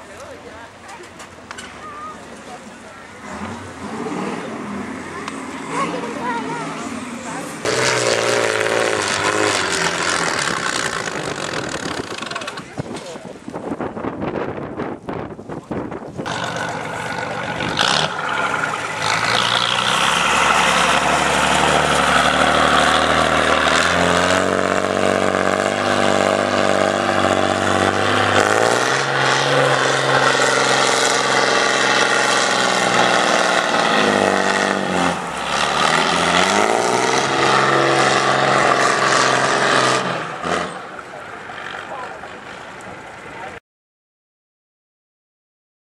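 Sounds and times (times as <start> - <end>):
truck engine running under load: 2.5 - 12.8, 16.2 - 43.6.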